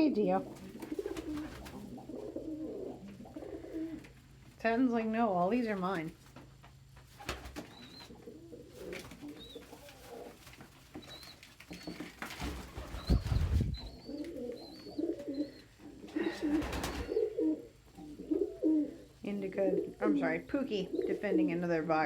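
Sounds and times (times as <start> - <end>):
pigeons cooing: 0.0 - 4.5, 7.2 - 22.0.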